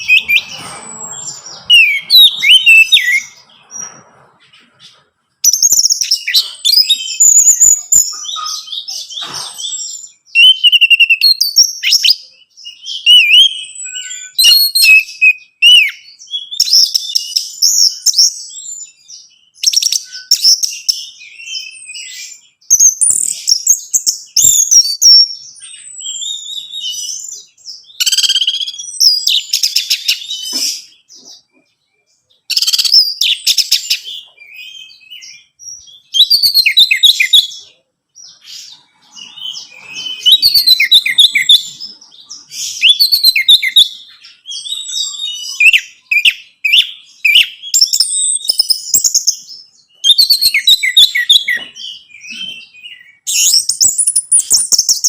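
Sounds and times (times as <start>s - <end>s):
thrush singing whistled phrases: 0.0s - 0.5s, 1.2s - 3.4s, 5.4s - 31.0s, 32.5s - 37.6s, 38.3s - 55.0s.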